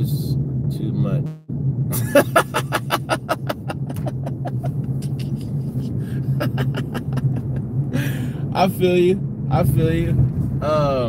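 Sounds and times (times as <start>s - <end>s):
car cabin road and engine hum: 0.0s - 11.0s.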